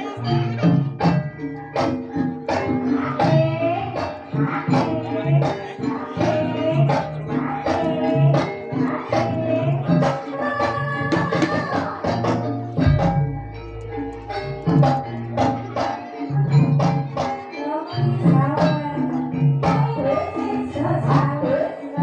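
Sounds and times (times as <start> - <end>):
rhythmic drum strokes: 0.0 - 21.7
ringing struck metal instruments: 0.0 - 22.0.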